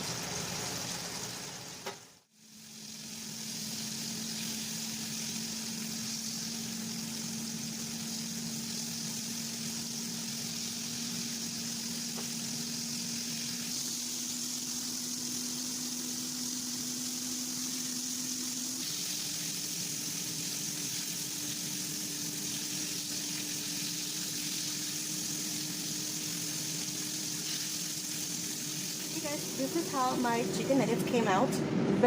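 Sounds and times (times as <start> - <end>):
food sizzling in hot oil: 0.0 - 30.8
steady low hum: 3.5 - 32.0.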